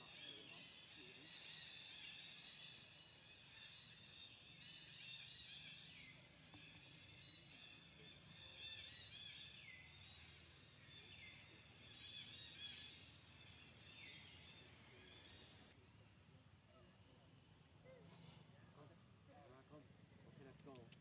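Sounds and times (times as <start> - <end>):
birds chirping and warbling: 0.0 - 18.8.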